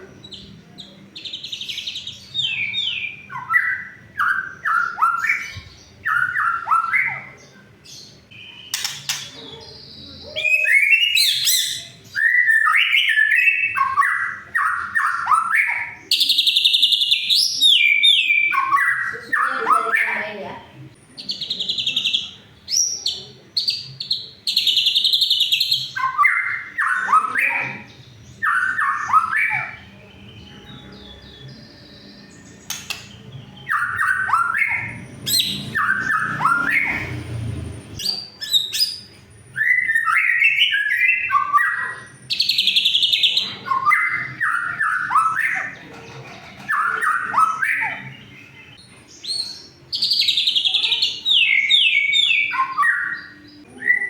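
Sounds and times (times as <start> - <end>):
bird singing whistled notes: 8.0 - 20.2, 21.2 - 45.8, 46.7 - 54.0.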